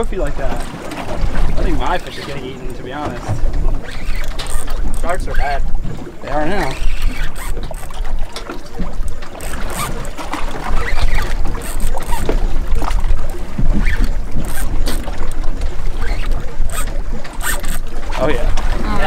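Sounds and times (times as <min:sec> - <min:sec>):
boat engine rumbling: 0:00.0 - 0:19.0
boat wash: 0:00.0 - 0:19.0.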